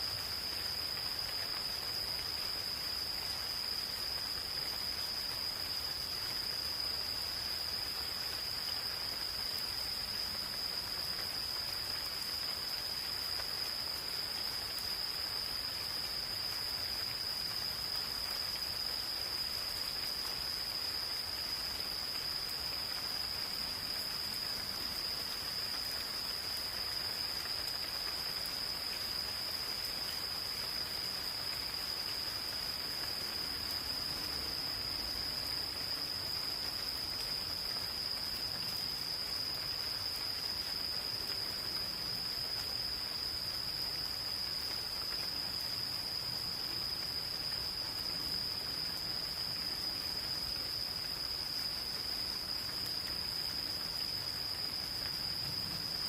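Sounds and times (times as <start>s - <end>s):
gentle rain hiss: 0.0s - 56.0s
insects trilling: 0.0s - 56.0s.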